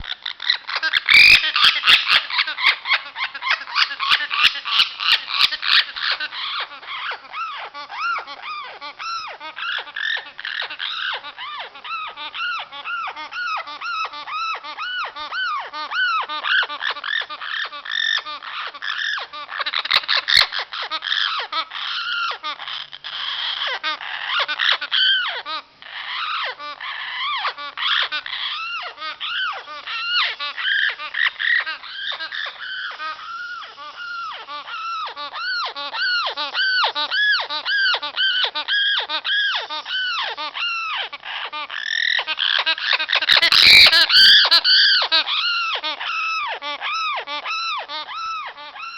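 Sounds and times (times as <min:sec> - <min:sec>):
parrot chattering: 0:00.0 - 0:48.9.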